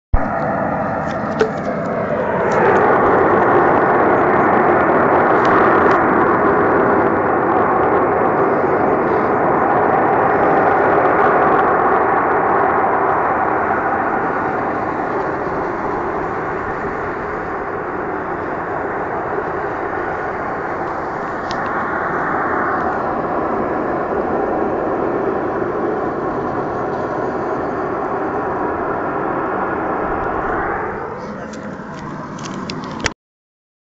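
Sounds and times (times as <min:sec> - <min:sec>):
loud drone over rushing noise: 0:00.1 - 0:33.2.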